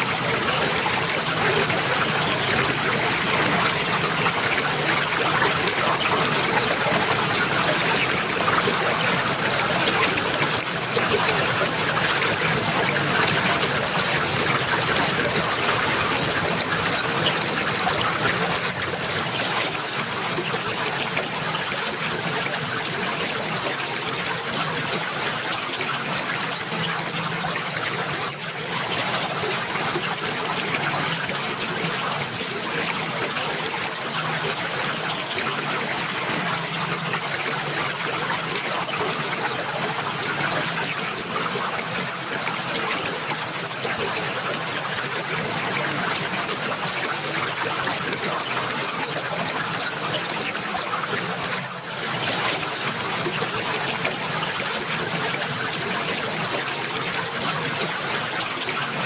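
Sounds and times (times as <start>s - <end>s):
water flowing and trickling: 0.0s - 59.0s.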